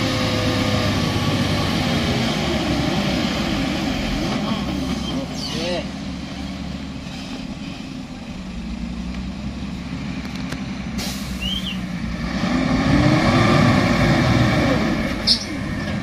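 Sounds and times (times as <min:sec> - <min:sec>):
truck diesel engine: 0:00.0 - 0:16.0.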